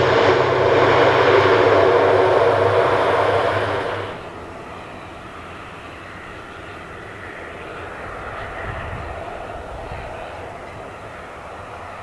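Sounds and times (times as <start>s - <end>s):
turboprop engines droning: 0.0s - 12.0s.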